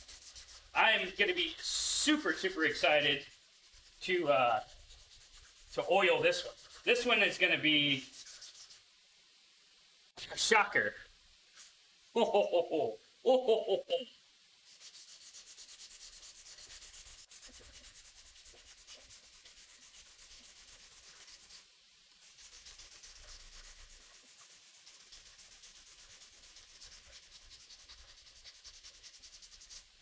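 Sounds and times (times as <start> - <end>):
sandpaper rubbing on wood: 0.0 - 8.9, 14.6 - 30.0.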